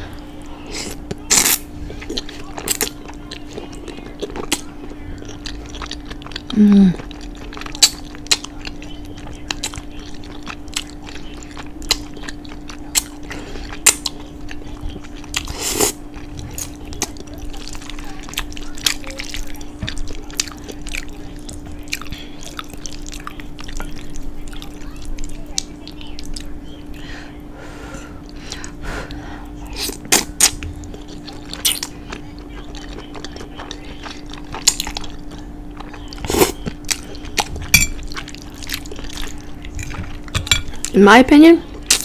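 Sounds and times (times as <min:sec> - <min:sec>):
chewing and wet mouth sounds: 0:00.2 - 0:27.1, 0:28.2 - 0:42.0.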